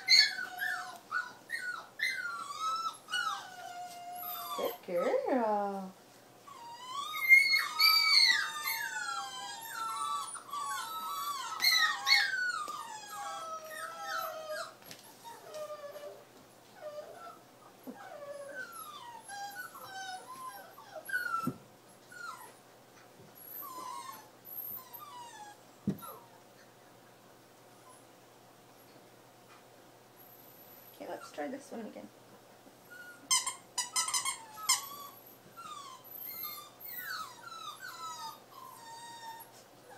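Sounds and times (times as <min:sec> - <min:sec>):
puppy whining: 0:00.0 - 0:26.9, 0:27.6 - 0:28.2, 0:28.8 - 0:31.5, 0:32.8 - 0:39.9.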